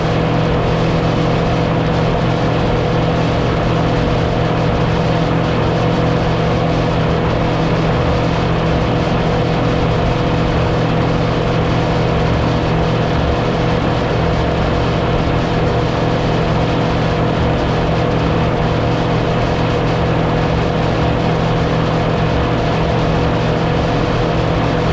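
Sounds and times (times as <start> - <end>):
motorboat engine running: 0.0 - 24.9.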